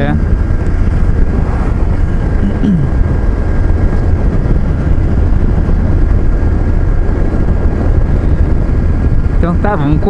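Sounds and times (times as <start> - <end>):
motorcycle engine running: 0.0 - 10.0
wind on microphone: 0.0 - 10.0.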